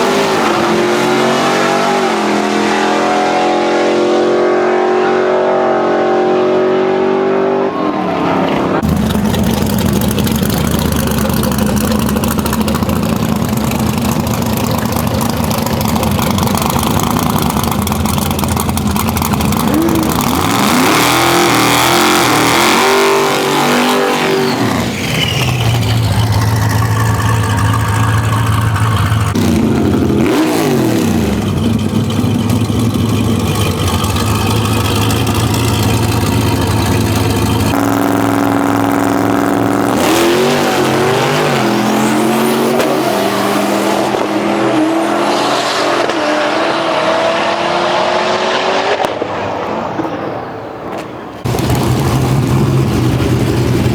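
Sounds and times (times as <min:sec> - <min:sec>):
loud truck engine revving: 0:00.0 - 0:49.3, 0:51.4 - 0:53.9.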